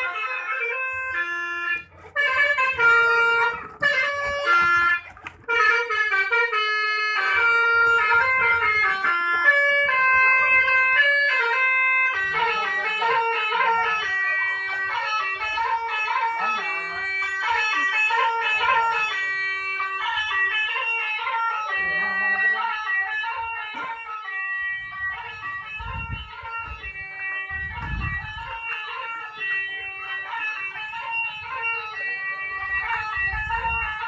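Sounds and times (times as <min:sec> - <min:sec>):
bus horns playing fast tune: 0:00.0 - 0:34.0.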